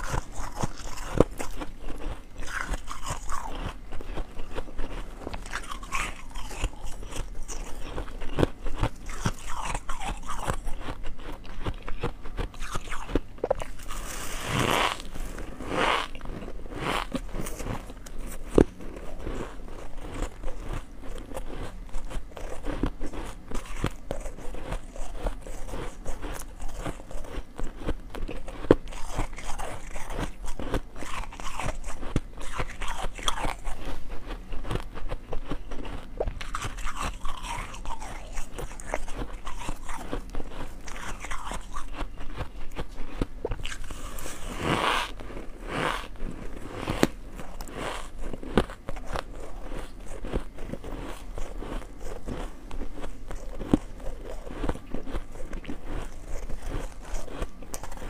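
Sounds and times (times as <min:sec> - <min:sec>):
person chewing crunchy ice: 0:00.0 - 0:58.0.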